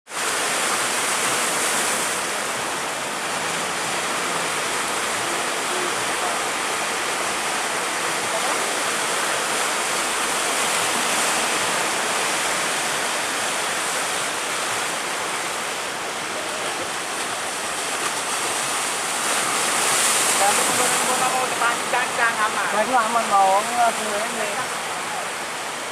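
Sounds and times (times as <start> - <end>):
sea water rushing: 0.1 - 25.9
wind: 0.1 - 25.9.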